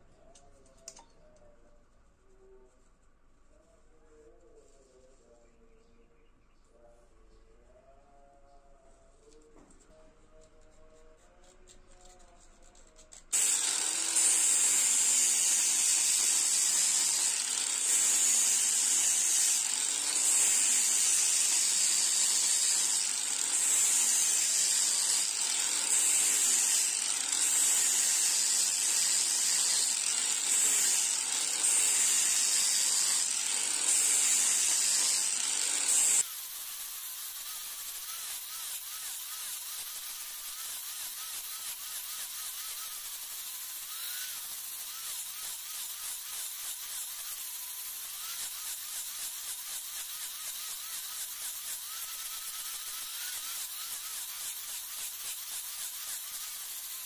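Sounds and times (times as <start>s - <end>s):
angle grinder sanding wood: 10.4s - 57.0s.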